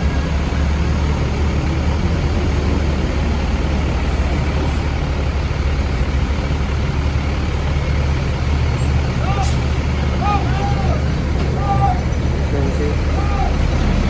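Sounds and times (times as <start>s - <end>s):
bus engine rumbling: 0.0s - 14.0s
road noise: 0.0s - 14.0s.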